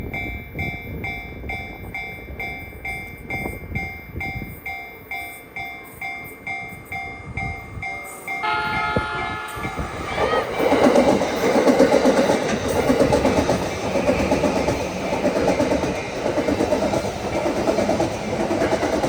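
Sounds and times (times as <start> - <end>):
level-crossing bell clanging: 0.0 - 19.0.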